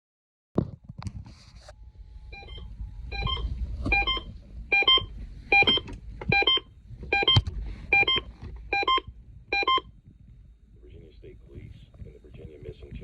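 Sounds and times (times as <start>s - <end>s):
low rumble: 1.3s - 13.0s.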